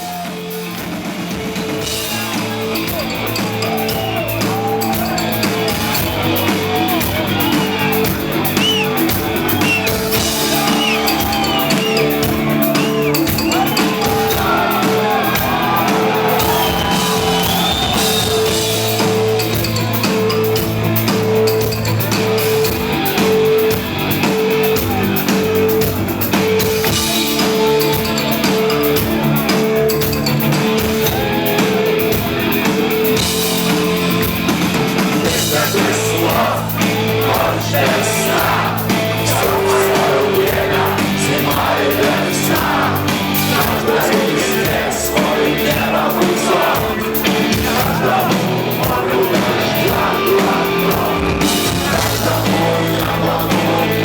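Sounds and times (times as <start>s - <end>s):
crowd singing and shouting: 0.0s - 54.0s
live rock band playing: 0.0s - 54.0s.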